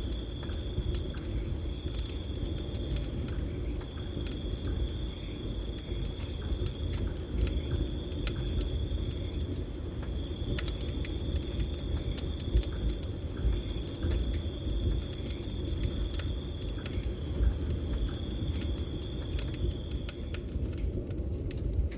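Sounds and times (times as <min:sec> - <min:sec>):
crickets chirping: 0:00.0 - 0:21.1
campfire crackling and popping: 0:00.0 - 0:21.9.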